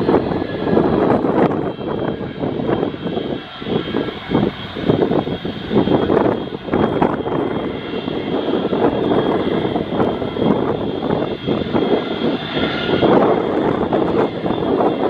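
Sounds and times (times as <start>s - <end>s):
high jet whine: 0.0s - 15.0s
jet engines at taxi power: 0.0s - 15.0s.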